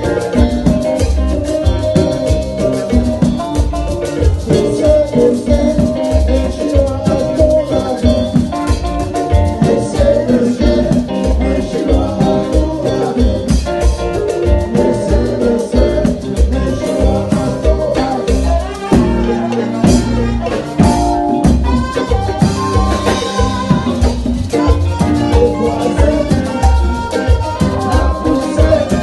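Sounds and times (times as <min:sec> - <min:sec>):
man singing into a microphone: 0:00.0 - 0:21.0, 0:22.8 - 0:29.0
bass: 0:00.0 - 0:29.0
drum kit: 0:00.0 - 0:29.0.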